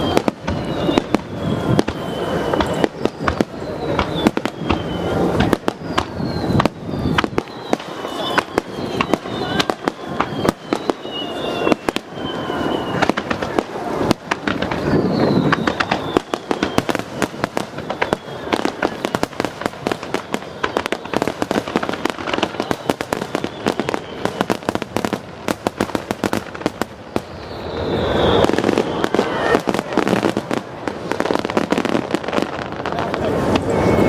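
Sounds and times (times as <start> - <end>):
fireworks crackling and bangs: 0.0 - 34.0
whistling fireworks: 0.0 - 34.0.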